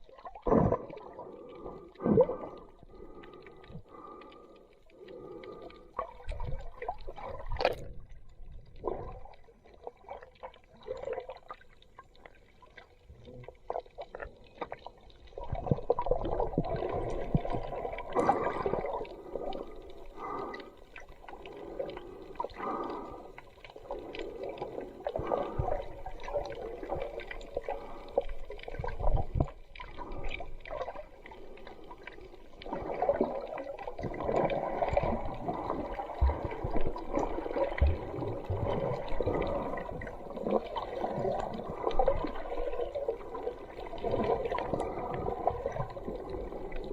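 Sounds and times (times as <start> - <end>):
water gurgling and sloshing: 0.0 - 46.9.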